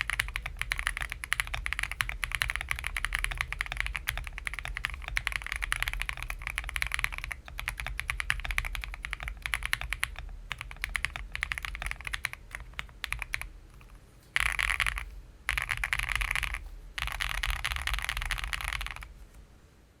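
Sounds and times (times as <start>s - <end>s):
mechanical keyboard typing: 0.0s - 19.1s.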